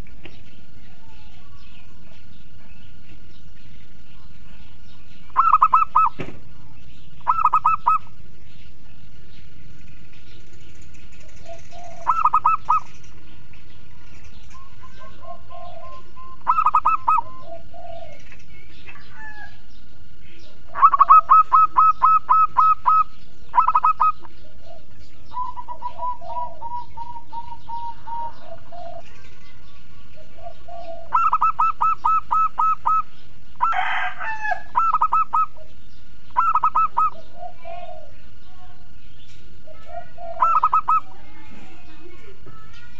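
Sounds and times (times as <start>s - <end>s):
faint lower bird calls: 0.0s - 42.9s
dove cooing in rolling notes: 4.1s - 8.6s, 10.6s - 39.0s, 39.6s - 42.5s.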